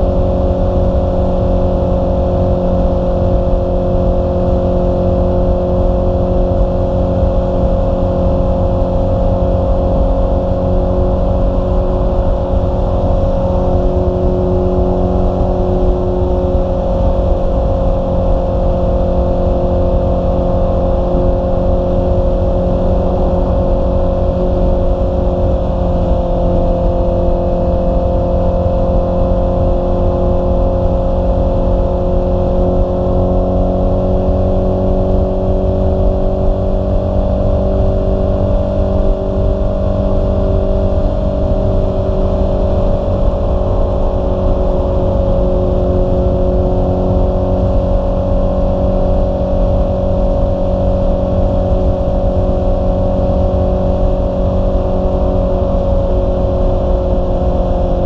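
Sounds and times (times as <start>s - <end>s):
motorcycle engine cruising: 0.0s - 58.0s
wind rumble on microphone: 0.0s - 58.0s.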